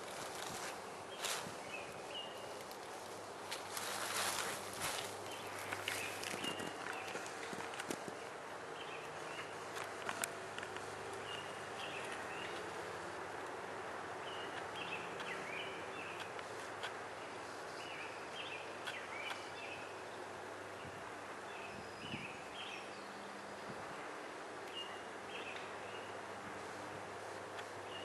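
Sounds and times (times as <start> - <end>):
background hiss: 0.0 - 28.0
birds chirping: 0.0 - 28.0.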